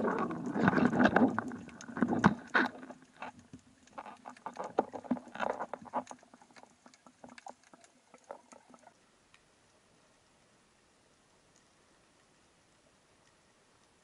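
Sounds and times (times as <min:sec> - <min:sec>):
underwater clicks and crackles: 0:00.0 - 0:10.2, 0:11.4 - 0:14.0.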